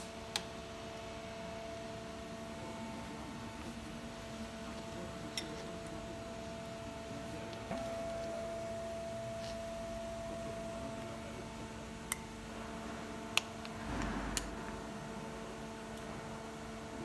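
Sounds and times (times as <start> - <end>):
steady multi-tone hum: 0.0 - 17.0.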